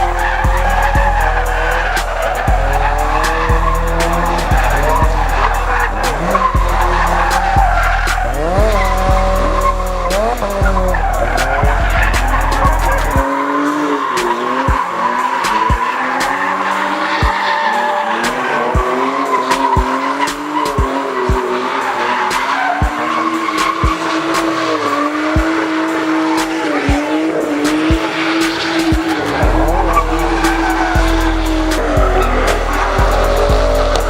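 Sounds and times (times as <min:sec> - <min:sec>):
bass-heavy music: 0:00.0 - 0:34.0
car engine revving: 0:00.0 - 0:34.0
tyres squealing: 0:00.0 - 0:34.0.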